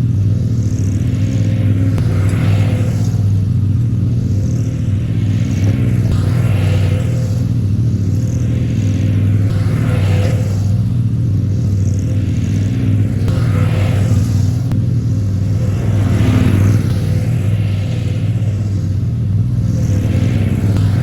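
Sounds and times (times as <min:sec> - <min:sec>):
mower engine running: 0:00.0 - 0:21.0.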